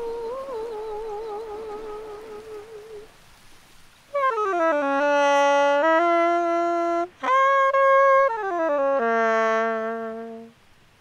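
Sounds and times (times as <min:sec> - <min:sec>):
saxophone: 0:00.0 - 0:03.1, 0:04.1 - 0:10.6.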